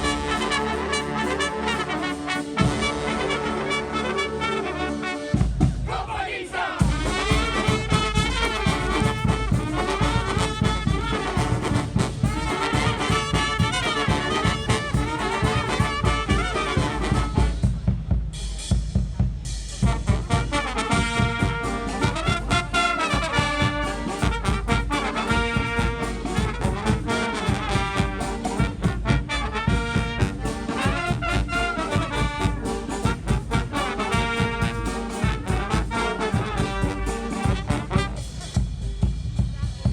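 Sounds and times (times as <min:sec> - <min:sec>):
steady drum beat: 0:00.0 - 0:03.4, 0:05.3 - 0:39.9
trumpets and trombones: 0:00.0 - 0:18.0, 0:19.7 - 0:39.0.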